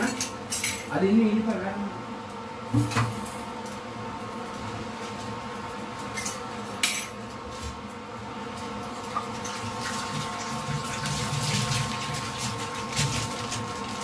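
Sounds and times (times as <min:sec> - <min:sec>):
induction cooktop humming: 0:00.0 - 0:14.0.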